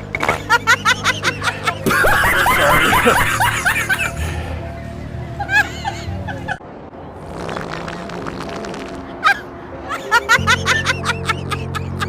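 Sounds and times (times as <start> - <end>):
background music with low notes: 0.0 - 7.1, 9.2 - 12.0.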